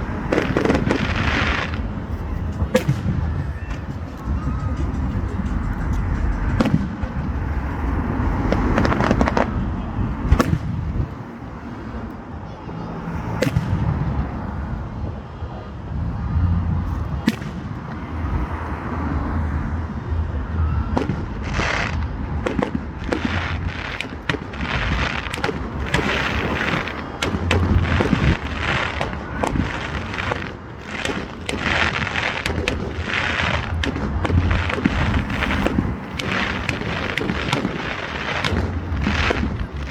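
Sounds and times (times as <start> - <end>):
fireworks bangs and booms: 0.0 - 11.8, 13.1 - 15.2, 16.7 - 18.6, 19.8 - 39.9
crackling firework bursts: 0.0 - 12.0, 13.1 - 15.2, 16.6 - 39.9.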